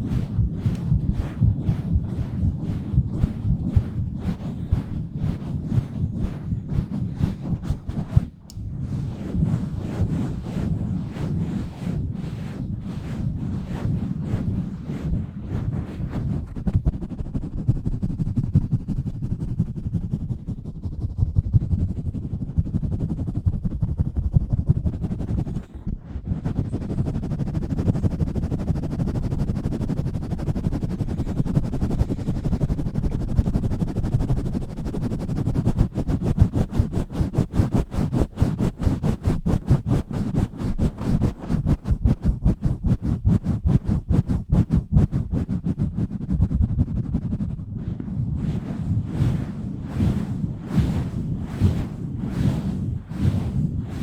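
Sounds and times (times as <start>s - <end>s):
hands rubbing on microphone: 0.0s - 54.0s.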